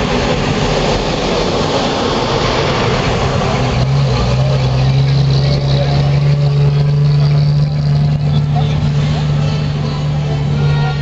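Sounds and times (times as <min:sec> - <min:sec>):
armored car engine moving off: 0:00.0 - 0:11.0
army truck engine running: 0:00.0 - 0:11.0.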